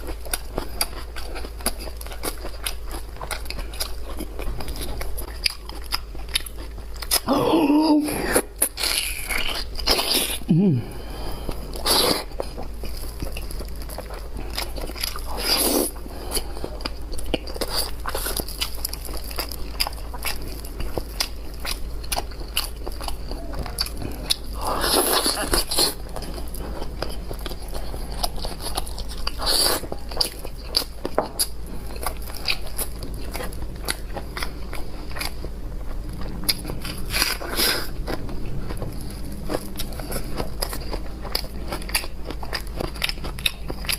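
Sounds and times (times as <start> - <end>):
chewing with wet clicks: 0.0 - 7.3, 8.6 - 43.9.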